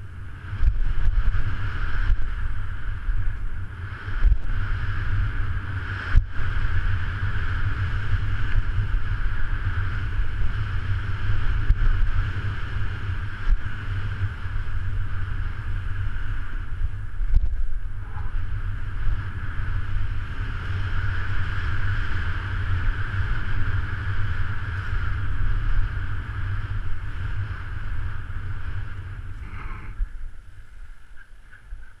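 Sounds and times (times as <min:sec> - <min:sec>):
bike rolling rumble: 0:00.0 - 0:32.0
wind rush on microphone: 0:00.0 - 0:32.0.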